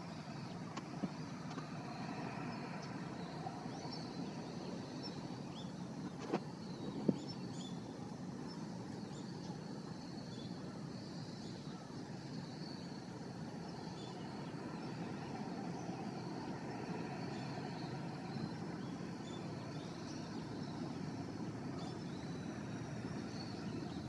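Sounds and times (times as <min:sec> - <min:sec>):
distant aircraft engine drone: 0:00.0 - 0:24.0.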